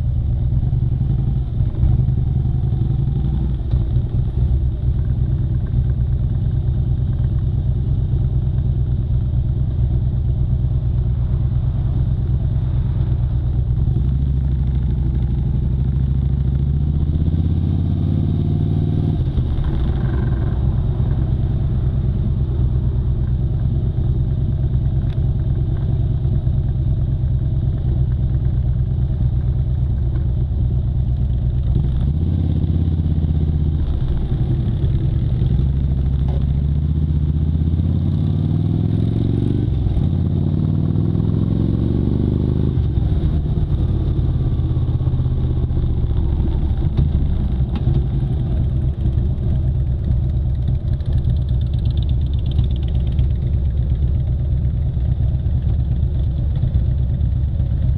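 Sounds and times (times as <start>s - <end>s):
motorcycle engine accelerating: 0.0s - 57.9s.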